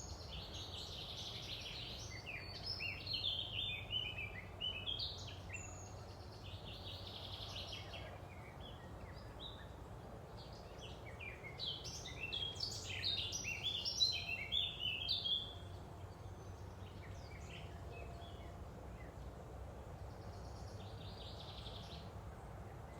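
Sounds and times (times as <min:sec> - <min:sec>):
low background noise: 0:00.0 - 0:22.9
songbirds chirping and trilling: 0:00.0 - 0:22.9.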